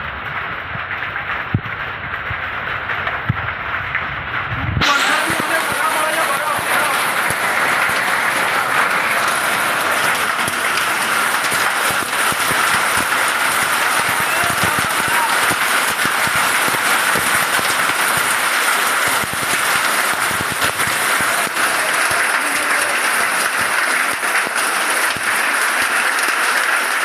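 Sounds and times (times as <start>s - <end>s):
hail clattering: 0.0s - 27.0s.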